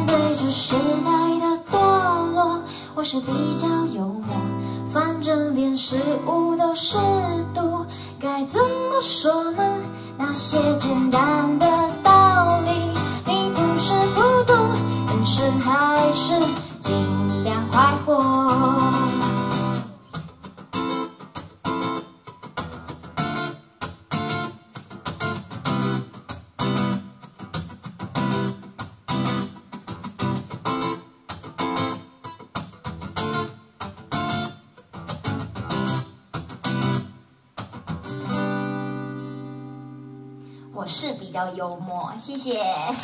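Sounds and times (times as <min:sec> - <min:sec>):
acoustic guitar strumming: 0:00.0 - 0:40.7.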